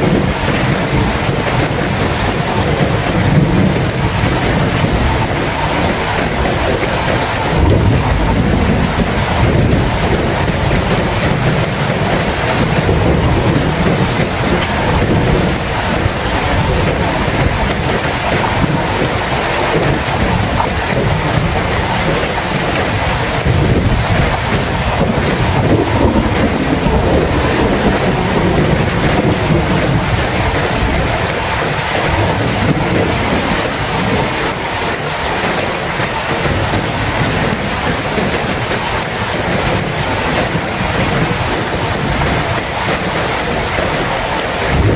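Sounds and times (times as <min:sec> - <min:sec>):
heavy rain: 0:00.0 - 0:44.9
low rumble of thunder: 0:00.0 - 0:44.9.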